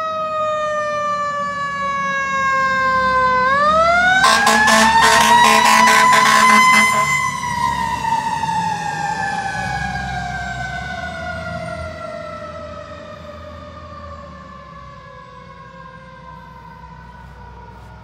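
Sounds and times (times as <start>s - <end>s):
fire engine siren: 0.0s - 18.0s.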